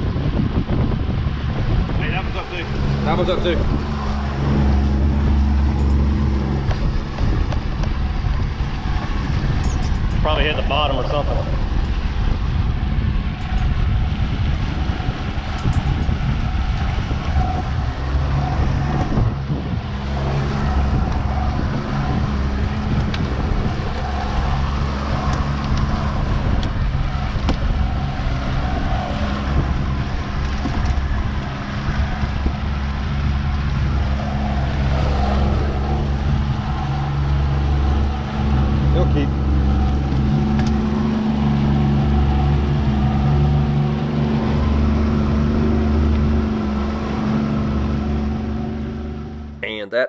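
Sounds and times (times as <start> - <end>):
constant rushing noise: 0.0 - 49.6.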